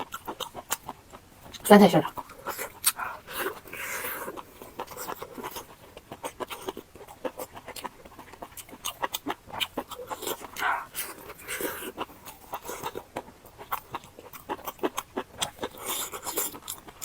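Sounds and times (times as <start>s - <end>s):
chewing and biting: 0.0s - 17.0s.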